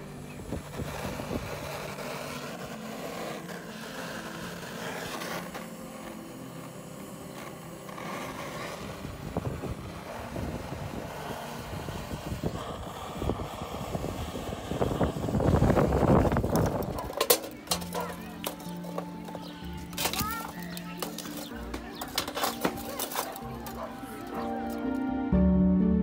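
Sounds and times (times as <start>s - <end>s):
blowtorch flame hissing: 0.0s - 24.9s.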